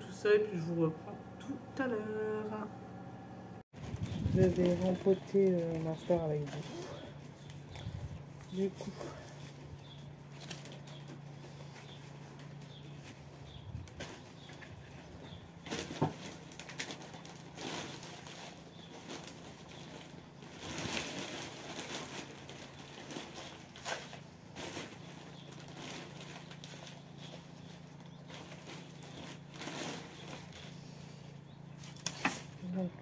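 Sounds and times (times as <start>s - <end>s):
plastic pot and soil rustling: 3.8s - 31.0s.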